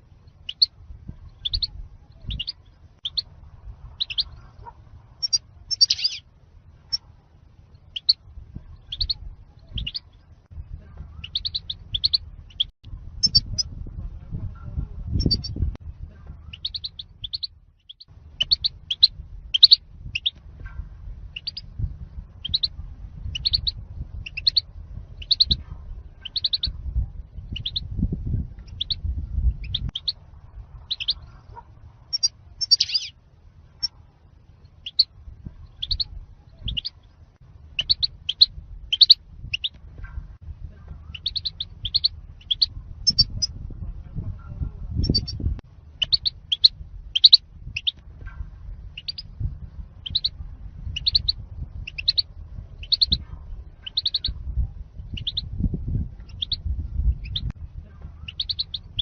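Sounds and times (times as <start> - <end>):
low background rumble: 0.0 - 59.0
bird chirping and twittering: 0.3 - 3.3, 3.9 - 6.3, 7.7 - 13.8, 15.1 - 15.7, 16.3 - 21.8, 22.4 - 30.2, 30.8 - 33.2, 34.6 - 43.6, 44.6 - 59.0.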